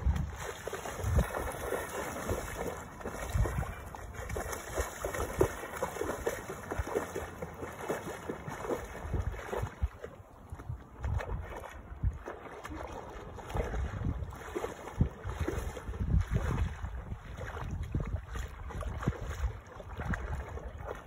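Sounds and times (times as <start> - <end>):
seawater splashing from wading: 0.0 - 21.0
wind rumbling on microphone: 0.0 - 21.0.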